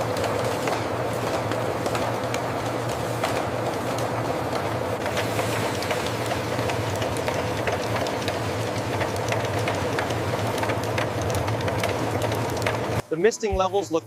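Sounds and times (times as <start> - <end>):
small irregular clicks and rattles: 0.0 - 13.0
factory machinery hum: 0.0 - 14.0.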